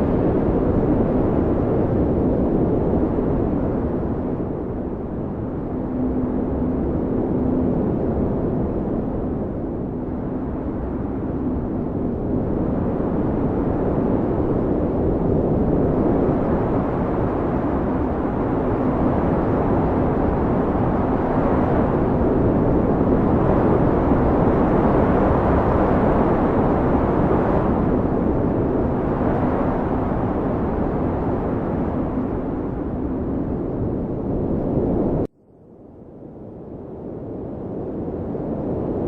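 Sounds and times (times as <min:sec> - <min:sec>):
howling storm wind: 0:00.0 - 0:35.3, 0:35.9 - 0:39.0.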